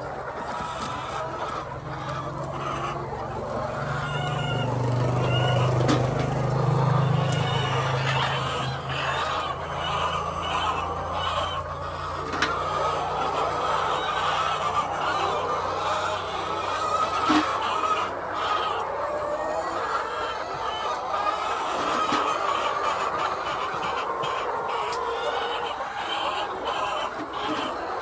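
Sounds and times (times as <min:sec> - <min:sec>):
hens clucking and squawking: 0:00.0 - 0:28.0.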